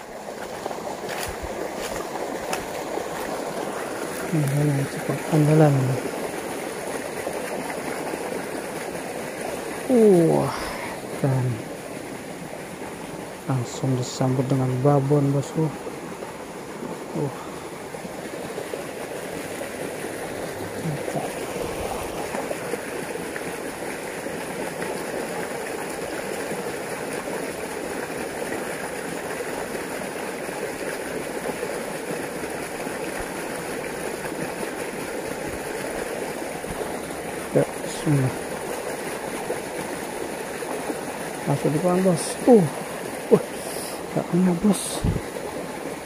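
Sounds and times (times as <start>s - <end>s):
water rushing through a channel: 0.0s - 46.0s.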